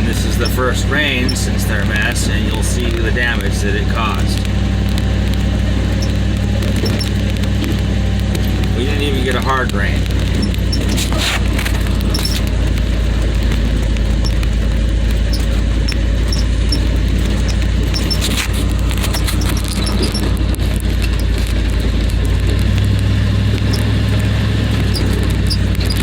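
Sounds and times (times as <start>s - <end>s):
rattles and knocks: 0.0s - 26.0s
vehicle engine droning: 0.0s - 26.0s.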